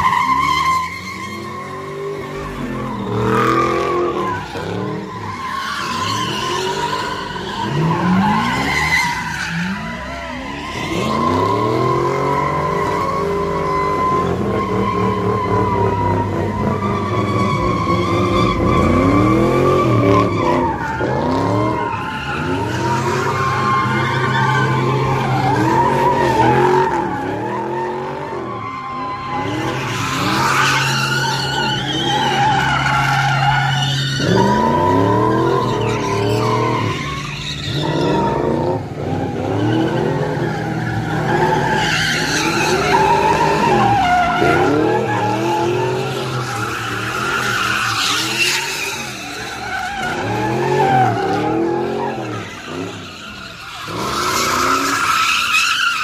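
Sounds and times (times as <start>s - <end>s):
car engine revving: 0.0s - 56.0s
tyres squealing: 0.0s - 56.0s.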